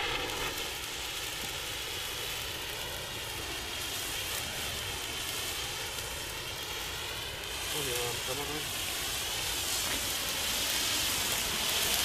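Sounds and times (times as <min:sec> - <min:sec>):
flares burning with a hiss: 0:00.0 - 0:12.0.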